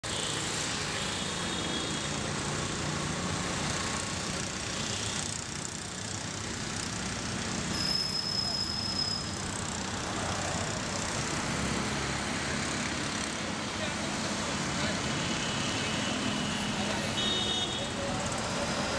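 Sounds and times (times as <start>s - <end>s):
street traffic noise: 0.0s - 18.9s.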